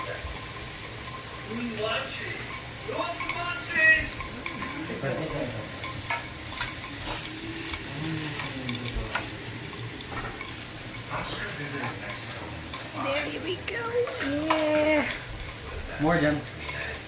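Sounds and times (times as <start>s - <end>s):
meat sizzling on a grill: 0.0s - 17.0s
utensils clicking and clattering: 0.0s - 17.0s.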